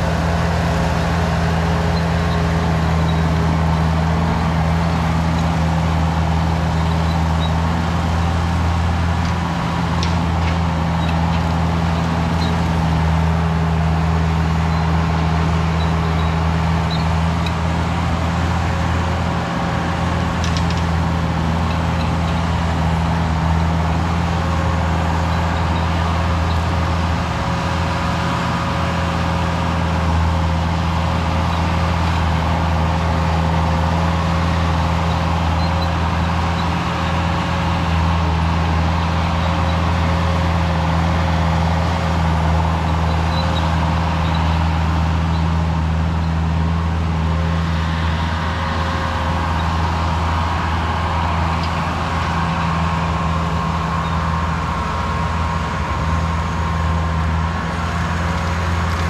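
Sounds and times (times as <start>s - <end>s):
skid steer diesel engine running: 0.0s - 59.0s.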